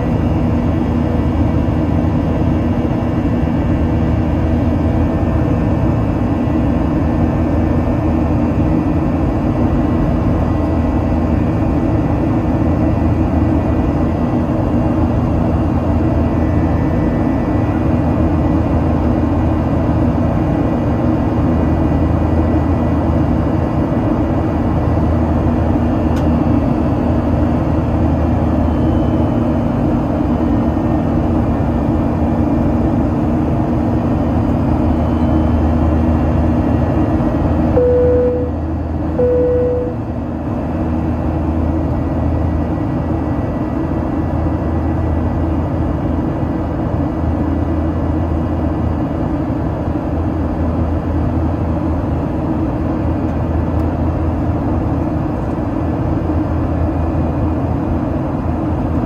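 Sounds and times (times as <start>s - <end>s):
airplane engines rumbling in cabin: 0.0s - 59.0s.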